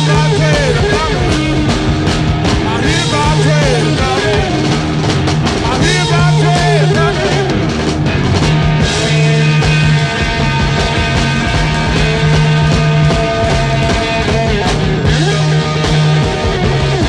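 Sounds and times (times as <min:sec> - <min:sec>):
blues-rock band playing: 0:00.0 - 0:17.0
lead guitar line bending pitch: 0:00.0 - 0:17.0.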